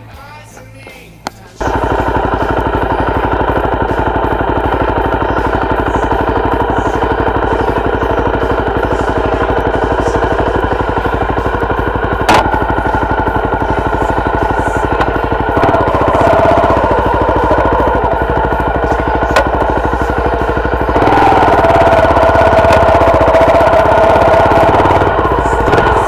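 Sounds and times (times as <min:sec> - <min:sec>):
motorcycle engine running: 0:01.0 - 0:26.0.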